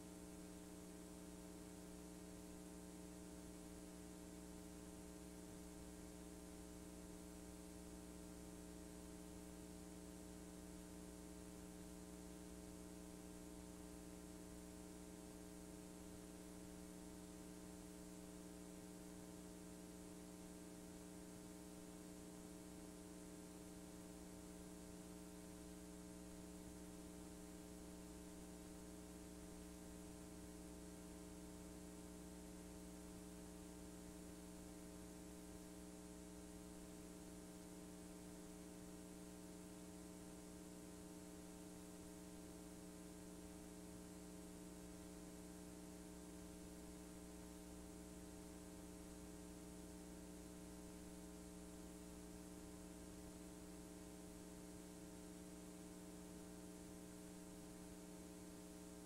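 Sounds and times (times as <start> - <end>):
mains hum: 0.0 - 59.0.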